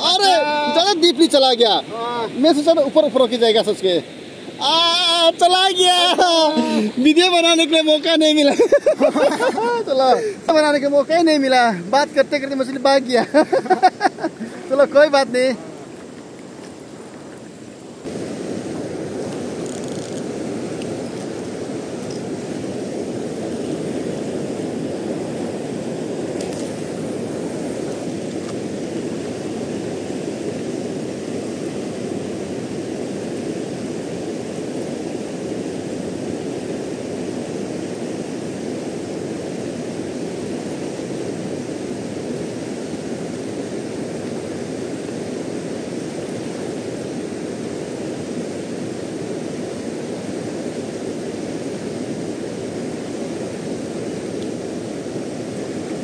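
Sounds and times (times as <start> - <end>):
river water rushing over rapids: 0.0 - 56.0.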